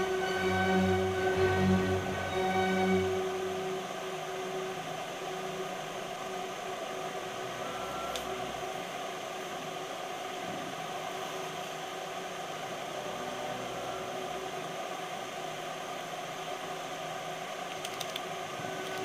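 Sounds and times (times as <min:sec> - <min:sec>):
room noise hiss and whir: 0:00.0 - 0:19.0.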